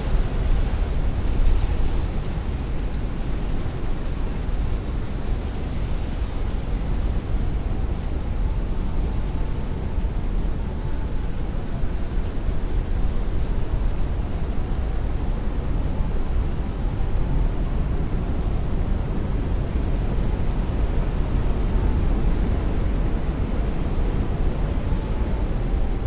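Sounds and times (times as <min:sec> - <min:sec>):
strong wind: 0:00.0 - 0:26.0.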